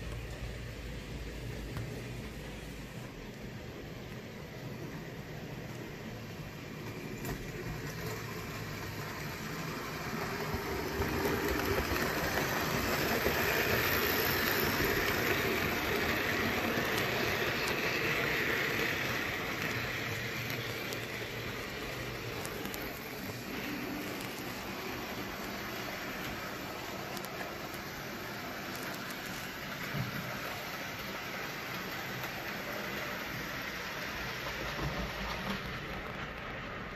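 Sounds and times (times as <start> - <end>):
model train rattling on metal track: 3.4 - 36.9.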